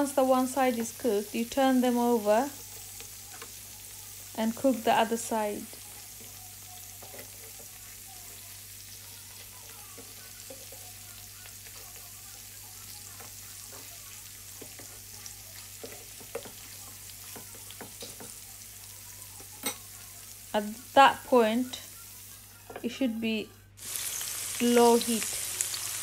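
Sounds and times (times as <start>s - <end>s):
meat sizzling in oil: 0.0s - 22.7s, 23.8s - 26.0s.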